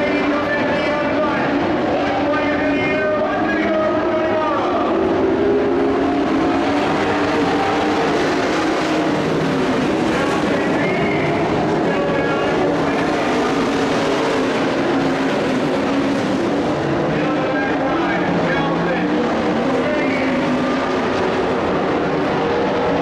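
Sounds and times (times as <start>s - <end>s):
race truck engines droning: 0.0s - 23.0s.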